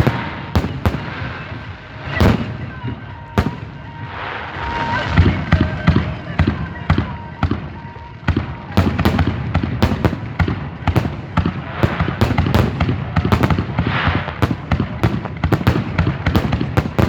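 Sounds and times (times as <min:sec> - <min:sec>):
fireworks hissing burst: 0:00.0 - 0:05.8, 0:08.6 - 0:17.0
fireworks bangs and crackles: 0:00.0 - 0:17.0.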